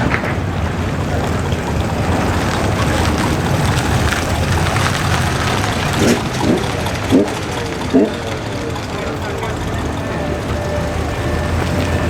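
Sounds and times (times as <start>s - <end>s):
car engines running at low revs: 0.0s - 12.0s
outdoor noise: 0.0s - 12.0s.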